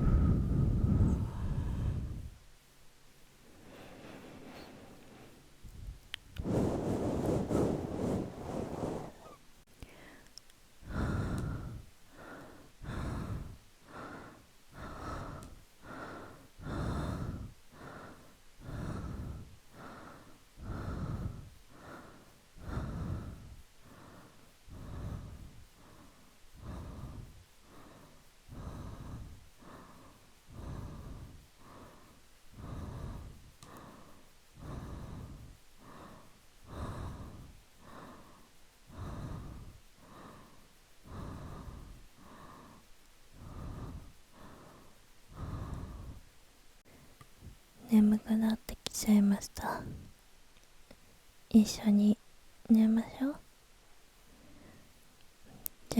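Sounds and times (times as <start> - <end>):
soft slow breathing: 0.0 - 55.9.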